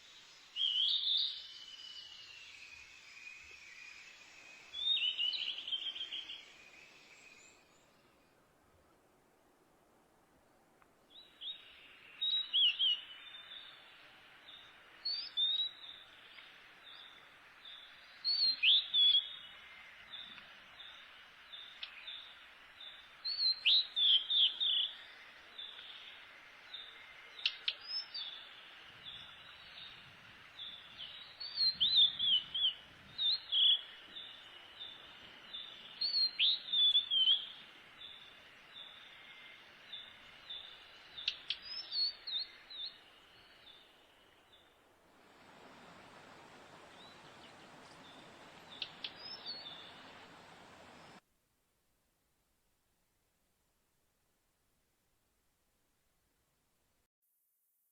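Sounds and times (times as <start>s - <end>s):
songbird singing: 0.0s - 8.5s, 11.1s - 51.2s.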